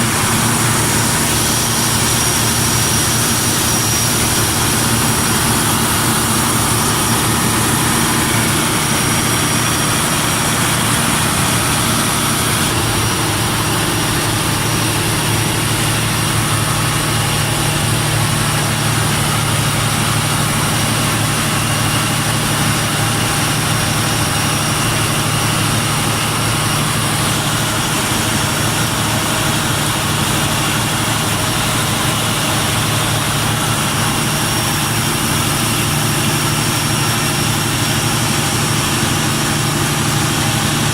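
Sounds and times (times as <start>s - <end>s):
diesel generator running: 0.0s - 40.9s.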